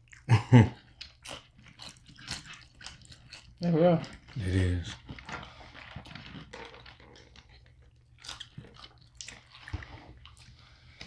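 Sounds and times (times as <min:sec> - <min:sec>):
crunchy food chewing: 0:00.0 - 0:11.0.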